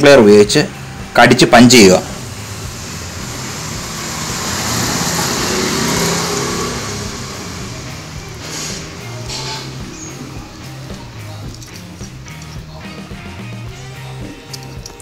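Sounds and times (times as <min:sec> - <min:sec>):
vehicle passing by: 0:00.7 - 0:13.2.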